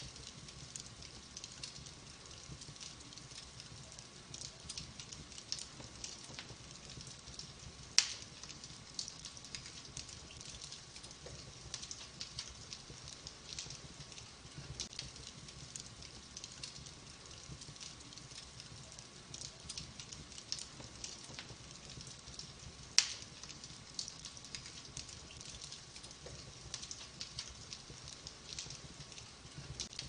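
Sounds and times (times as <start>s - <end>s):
fire snap: 0.0s - 30.0s
wood fire crackling: 0.0s - 30.0s.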